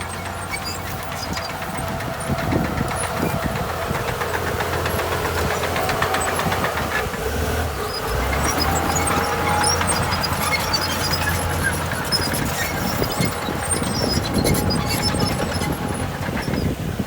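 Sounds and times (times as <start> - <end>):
fast ticking clatter: 0.0 - 7.3, 8.0 - 17.0
heavy diesel engine running: 0.0 - 17.0.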